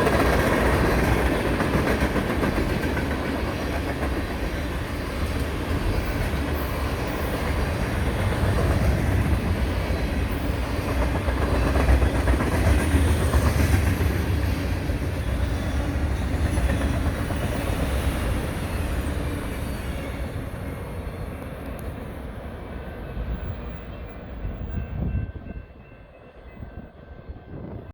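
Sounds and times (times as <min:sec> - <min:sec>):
freight train rolling past: 0:00.0 - 0:27.9.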